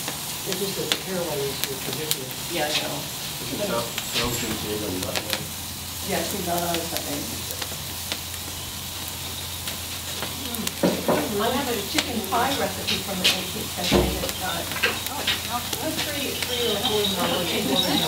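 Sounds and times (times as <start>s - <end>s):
meat sizzling over a fire: 0.0s - 18.0s
faint voices: 0.4s - 8.0s, 9.9s - 18.0s.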